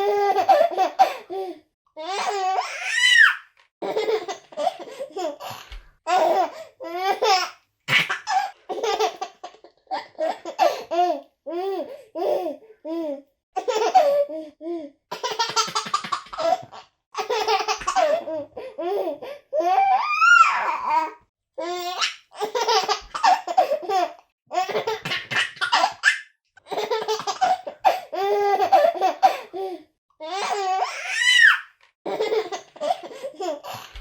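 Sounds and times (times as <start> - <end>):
baby laughing: 0.0 - 1.2, 2.0 - 11.2, 13.6 - 14.3, 15.1 - 29.6, 30.3 - 34.0.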